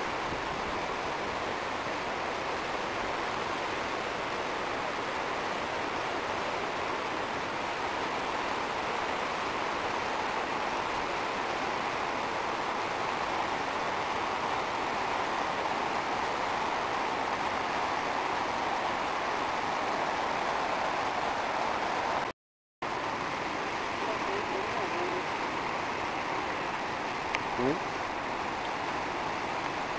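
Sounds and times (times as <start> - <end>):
running water rushing: 0.0 - 29.9.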